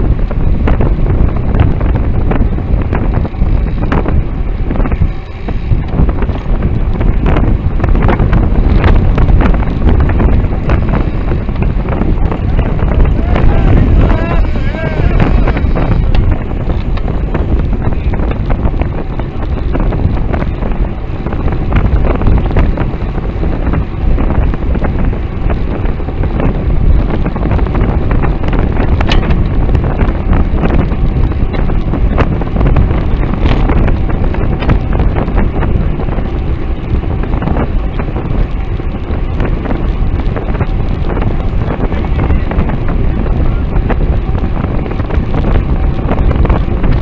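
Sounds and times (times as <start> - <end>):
wind rumbling on microphone: 0.0 - 47.0.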